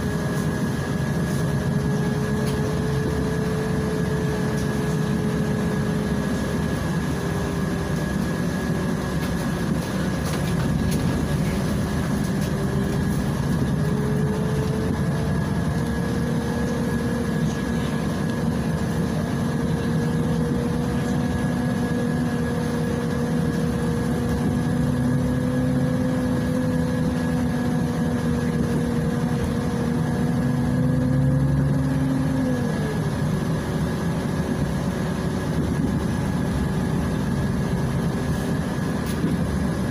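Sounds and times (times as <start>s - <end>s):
bus engine rumble and whine: 0.0s - 39.9s.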